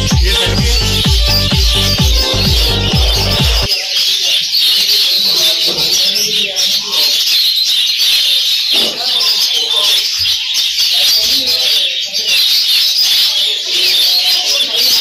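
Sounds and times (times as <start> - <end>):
murmur of voices: 0.0 - 15.0
small birds chirping: 0.0 - 15.0.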